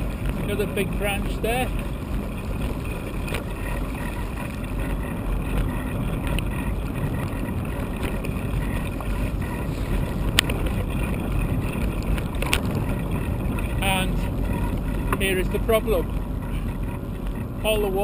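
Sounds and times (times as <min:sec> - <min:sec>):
bicycle rolling on tarmac: 0:00.0 - 0:18.0
wind noise on microphone: 0:00.0 - 0:18.0.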